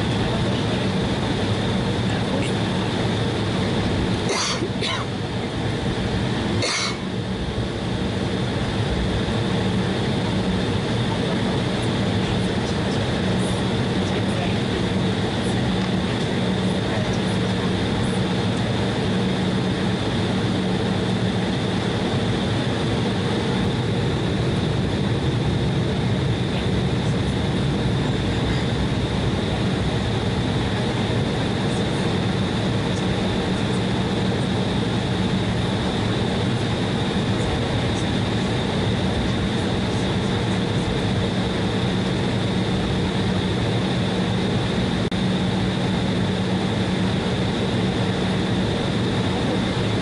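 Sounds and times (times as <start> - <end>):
jet engine high whine: 0.0 - 50.0
jet engines rumbling hum: 0.0 - 50.0.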